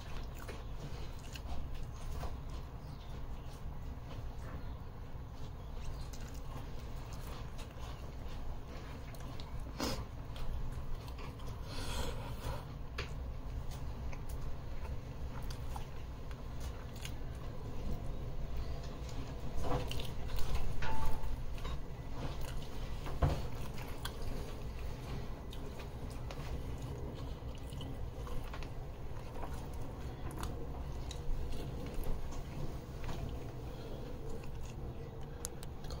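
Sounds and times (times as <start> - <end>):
person chewing chicken sandwich: 0.0 - 4.4, 5.2 - 36.0.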